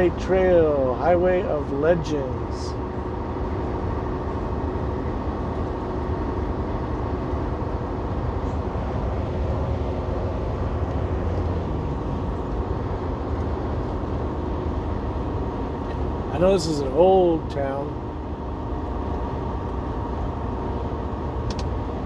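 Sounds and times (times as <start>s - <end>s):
truck engine and road noise: 0.0s - 22.0s.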